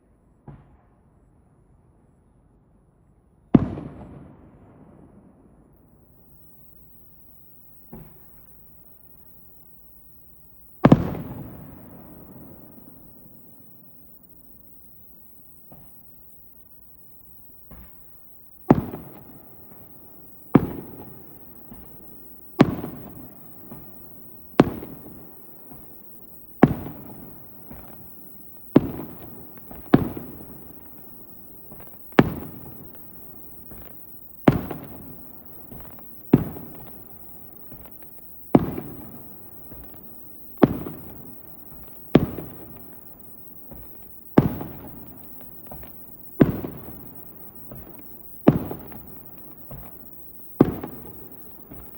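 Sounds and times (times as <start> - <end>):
firework shells bursting: 6.2 - 51.9.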